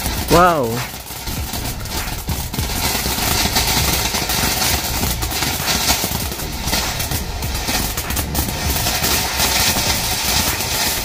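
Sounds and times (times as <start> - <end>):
firework fountain hissing and crackling: 0.0 - 11.0.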